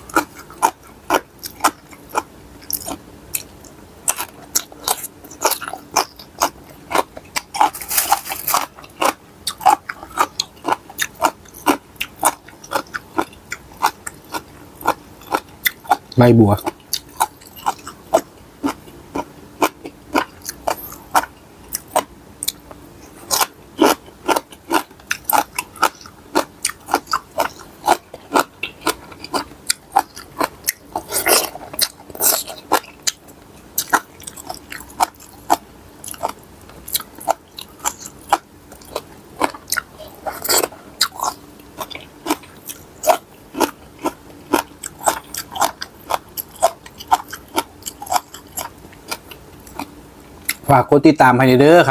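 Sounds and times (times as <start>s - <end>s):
person chewing crunchy food: 0.0s - 50.7s
faint steady hum: 0.0s - 51.9s.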